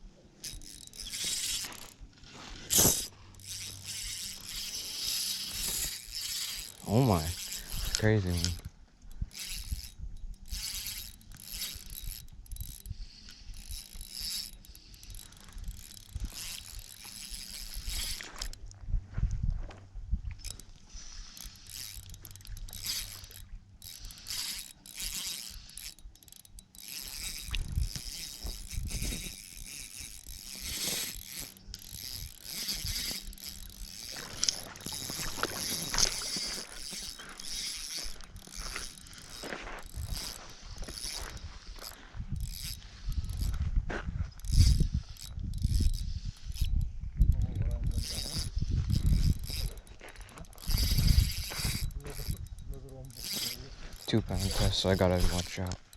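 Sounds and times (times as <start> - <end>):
fishing reel clicking and whirring: 0.4 - 18.8, 20.4 - 55.9.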